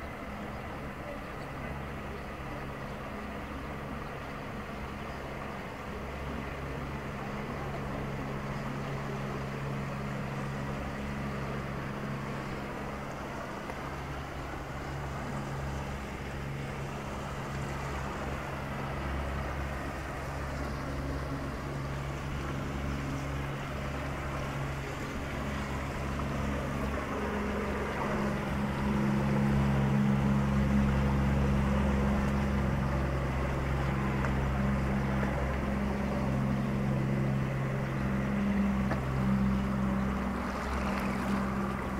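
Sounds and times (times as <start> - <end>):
outboard motor running: 0.0 - 41.9.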